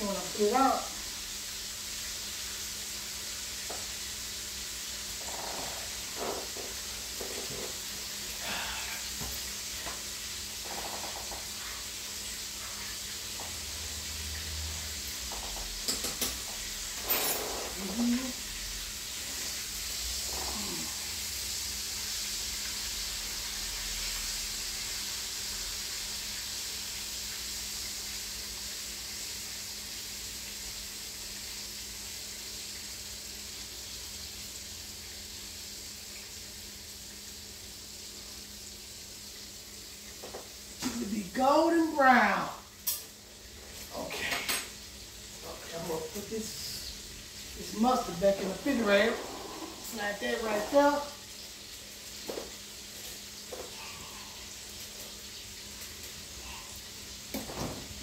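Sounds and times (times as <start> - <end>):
chicken frying in oil: 0.0 - 58.0.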